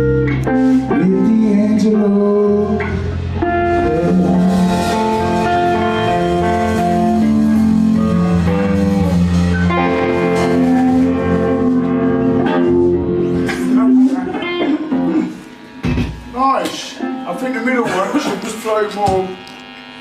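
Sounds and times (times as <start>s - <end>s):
guitar rock music: 0.0s - 19.4s.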